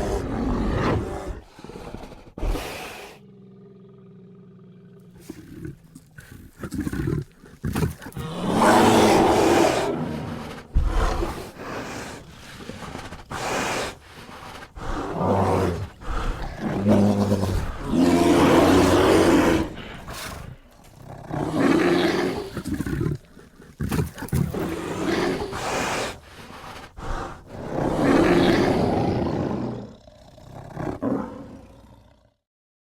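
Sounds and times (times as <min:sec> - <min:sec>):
bear roaring: 0:00.0 - 0:32.4.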